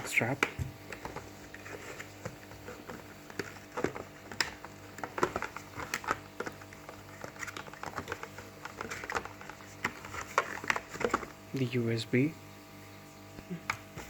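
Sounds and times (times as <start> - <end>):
packaging clicks and rustles: 0.0 - 11.4.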